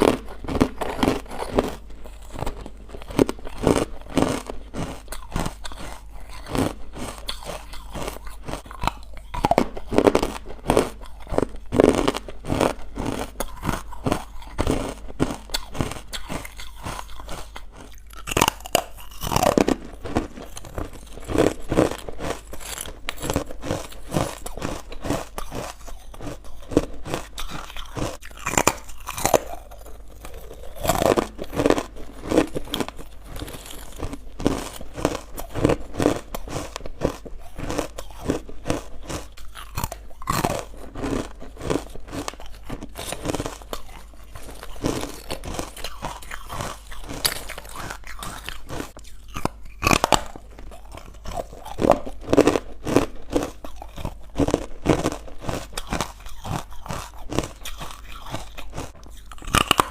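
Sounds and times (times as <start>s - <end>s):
crunching and chewing ice: 0.0s - 59.9s.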